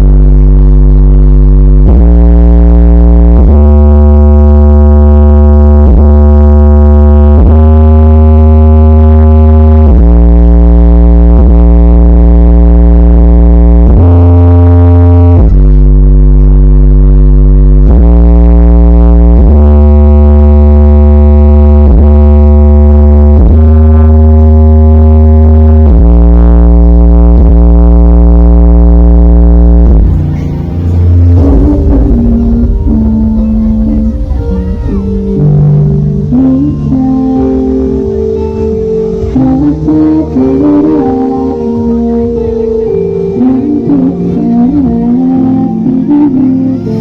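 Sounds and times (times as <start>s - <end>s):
bass-heavy electronic music: 0.0s - 47.0s.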